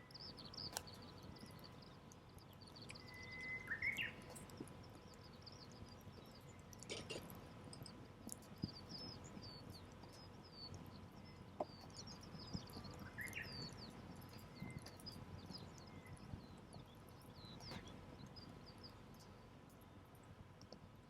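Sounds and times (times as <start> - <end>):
small birds chirping: 0.0 - 21.0
campfire crackling and popping: 0.1 - 20.9.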